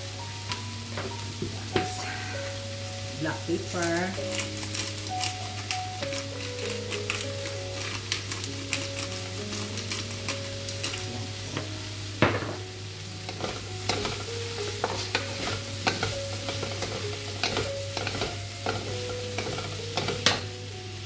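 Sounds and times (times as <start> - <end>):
vegetables sizzling in a pan: 0.0 - 21.0.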